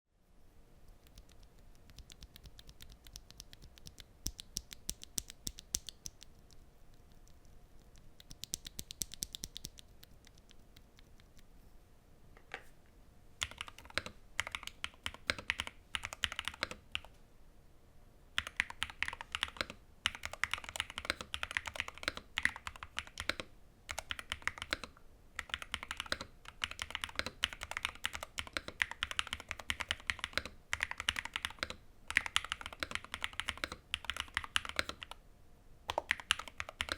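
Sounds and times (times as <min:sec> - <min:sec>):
typing on a keyboard: 0:01.0 - 0:11.4, 0:13.4 - 0:17.1, 0:18.4 - 0:35.2, 0:35.9 - 0:36.9.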